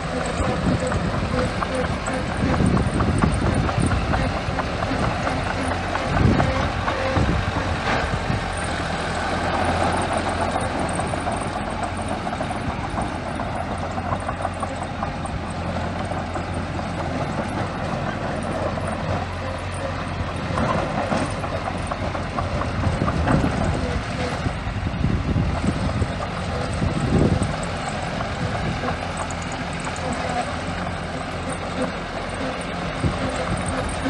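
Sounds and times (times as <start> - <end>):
rattling clatter: 0.0 - 24.5, 25.4 - 34.0
bulldozer diesel engine running: 0.0 - 34.0.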